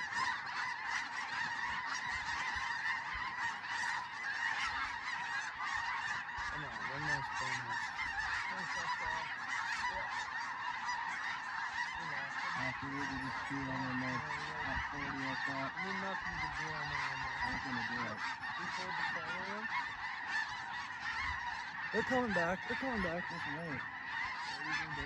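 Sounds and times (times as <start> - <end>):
flock of geese honking: 0.0 - 25.0.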